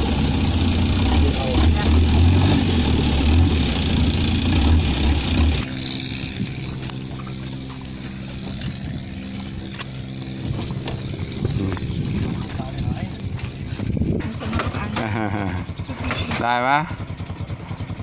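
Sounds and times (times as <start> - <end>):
boat engine running loud: 0.0 - 18.0
small engine idling: 0.0 - 18.0.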